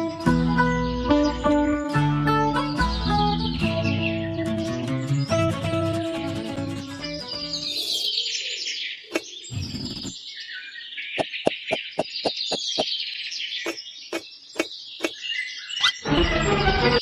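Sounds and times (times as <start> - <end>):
birds chirping and singing: 0.6 - 5.5, 6.8 - 17.0.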